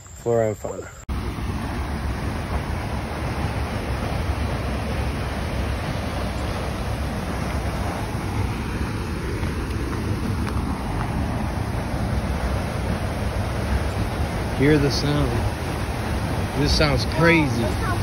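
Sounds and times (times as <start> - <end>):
waterfall roaring: 1.1 - 18.0.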